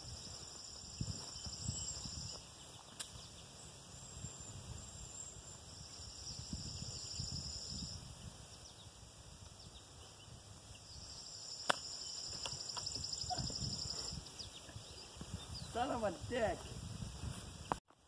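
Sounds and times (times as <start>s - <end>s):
insects buzzing: 0.0s - 17.7s.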